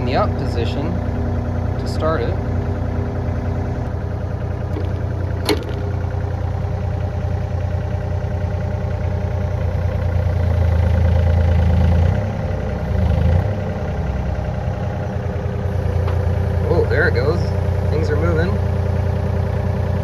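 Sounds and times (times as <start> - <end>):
excavator diesel engine idling: 0.0 - 20.0.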